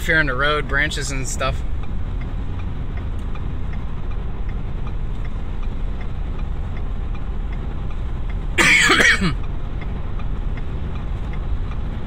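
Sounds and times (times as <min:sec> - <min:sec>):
car engine and road rumble: 0:00.0 - 0:12.0
faint ticking: 0:00.1 - 0:12.0.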